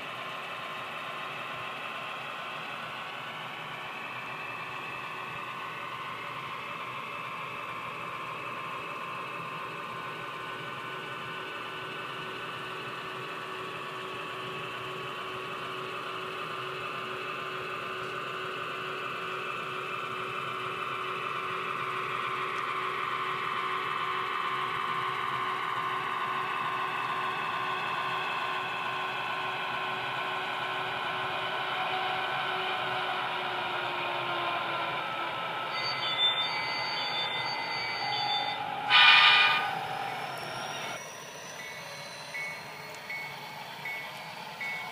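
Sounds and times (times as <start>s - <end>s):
model locomotives whirring hum: 0.0s - 44.9s.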